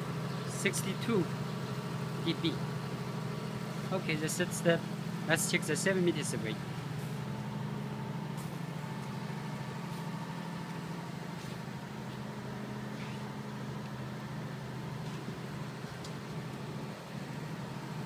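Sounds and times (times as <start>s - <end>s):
generator humming: 0.0s - 18.0s.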